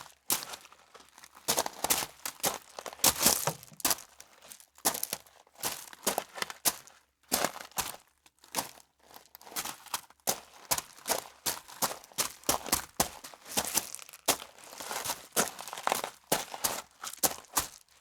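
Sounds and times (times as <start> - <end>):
footsteps on gritty stone steps: 0.3 - 18.0.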